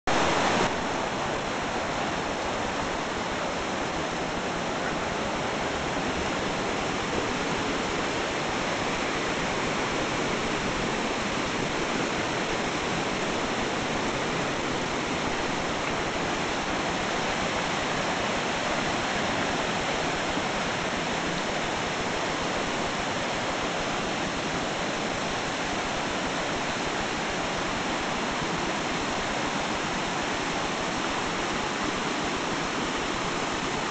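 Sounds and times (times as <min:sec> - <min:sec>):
stream rushing over rocks: 0:00.1 - 0:33.9.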